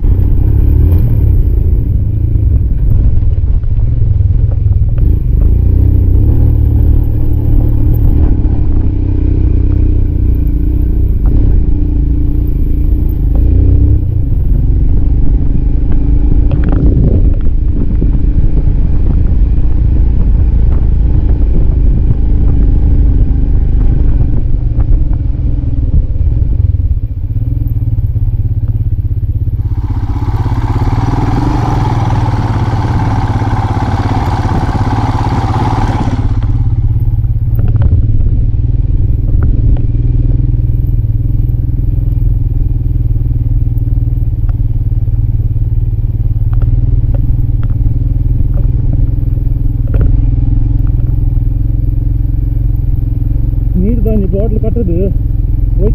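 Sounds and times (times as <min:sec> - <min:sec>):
motorcycle engine rumbling: 0:00.0 - 0:55.9.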